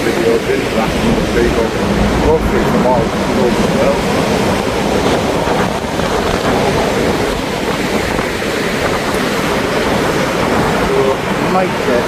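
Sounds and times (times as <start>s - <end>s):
sea surf breaking on beach: 0.0s - 12.0s
wind buffeting microphone: 0.0s - 12.0s.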